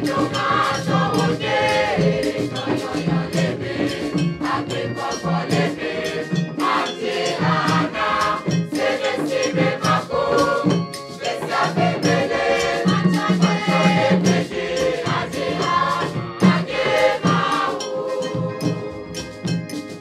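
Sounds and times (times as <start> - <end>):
young choir singing: 0.0 - 19.8
hand drums beating: 0.0 - 20.0.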